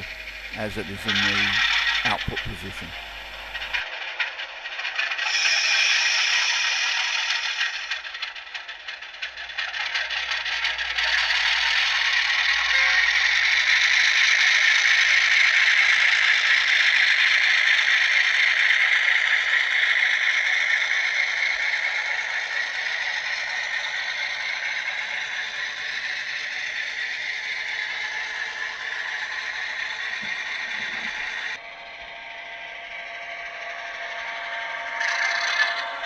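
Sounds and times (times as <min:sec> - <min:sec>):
model train rattling whir: 0:00.0 - 0:36.0.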